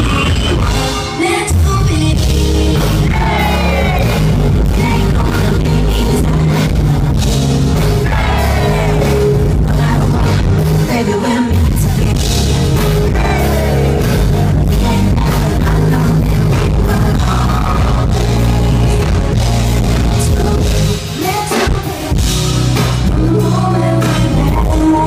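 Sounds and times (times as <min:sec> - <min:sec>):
heavy bass line: 0:00.0 - 0:01.0, 0:01.6 - 0:21.1, 0:22.1 - 0:25.0
live band music: 0:00.0 - 0:25.0
woman singing into microphone: 0:00.4 - 0:07.0, 0:08.0 - 0:22.4, 0:23.0 - 0:25.0.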